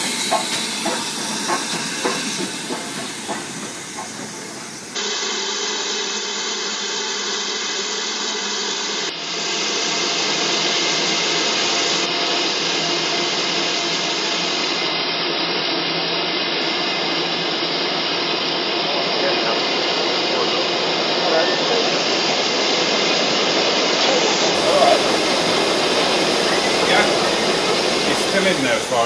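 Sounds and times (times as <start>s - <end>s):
steam hissing from locomotive: 0.0s - 29.0s.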